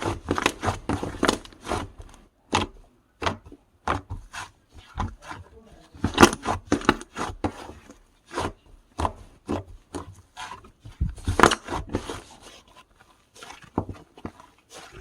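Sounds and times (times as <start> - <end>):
slime squished by hand: 0.0 - 15.0.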